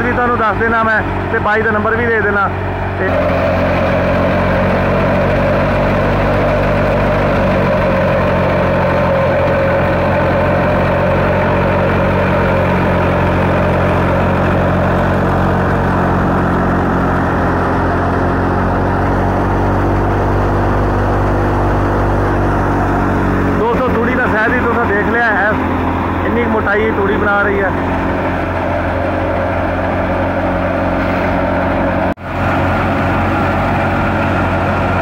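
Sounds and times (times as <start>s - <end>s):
high machine whine: 0.0s - 35.0s
thresher mechanical din: 0.0s - 35.0s
tractor engine drone: 0.0s - 35.0s.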